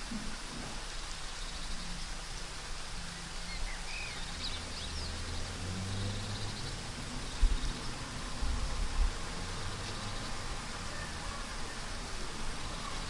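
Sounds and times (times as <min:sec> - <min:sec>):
rain hiss: 0:00.0 - 0:13.0.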